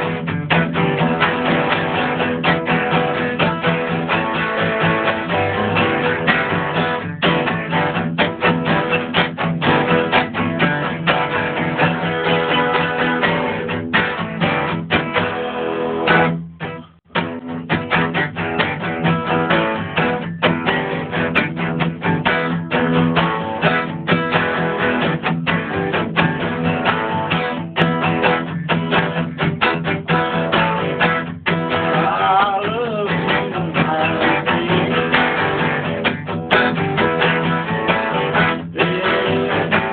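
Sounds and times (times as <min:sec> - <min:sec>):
guitar playing: 0:00.0 - 0:39.9.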